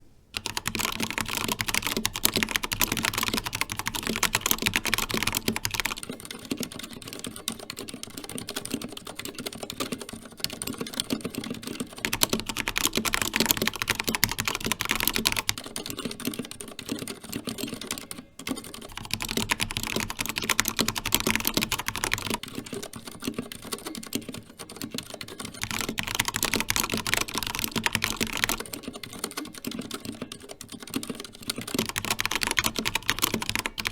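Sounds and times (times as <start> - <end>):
typing on mechanical keyboard: 0.4 - 33.9.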